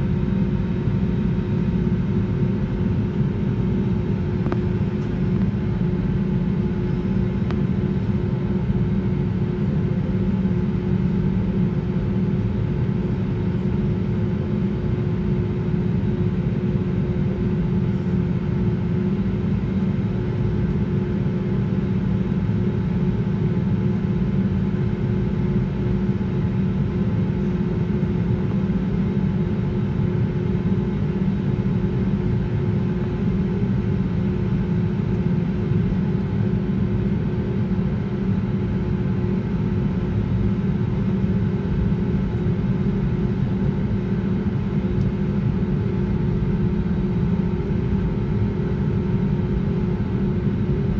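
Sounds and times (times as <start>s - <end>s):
air-conditioning hum: 0.0s - 50.9s
aircraft engines rumbling: 0.0s - 50.9s.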